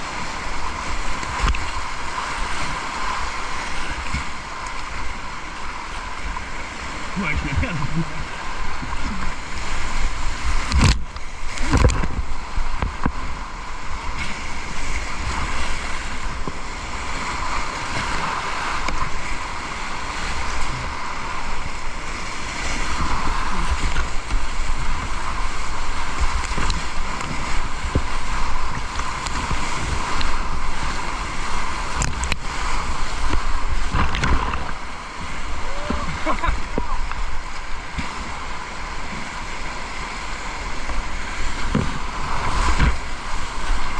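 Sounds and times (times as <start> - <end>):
river water rushing: 0.0 - 43.9
wind rumble on microphone: 0.0 - 43.9.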